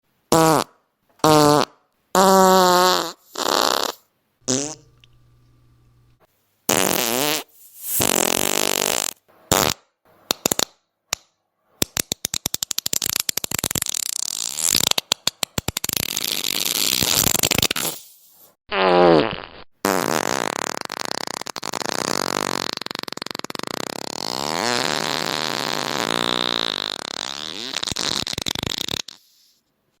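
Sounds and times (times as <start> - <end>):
farting: 0.3 - 4.9, 6.7 - 10.7, 12.2 - 15.0, 15.6 - 18.1, 18.7 - 29.6.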